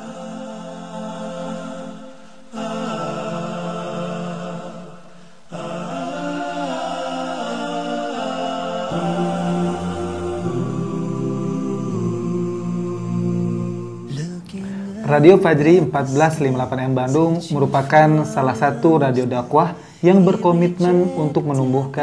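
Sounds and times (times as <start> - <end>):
a cappella voices singing: 0.0 - 22.0.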